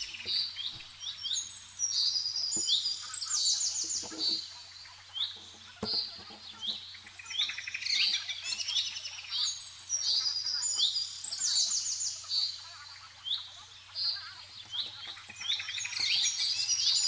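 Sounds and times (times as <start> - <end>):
songbird chirping and trilling: 0.0 - 17.0.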